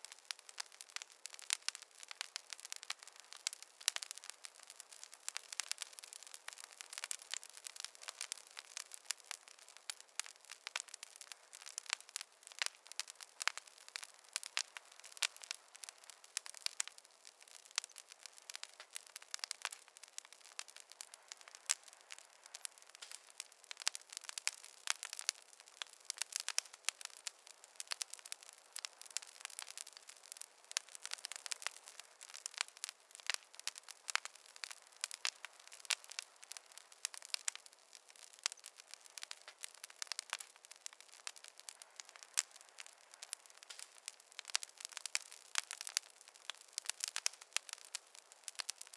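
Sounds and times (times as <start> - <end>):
campfire crackling: 0.0 - 48.9
faint hiss: 0.0 - 48.9.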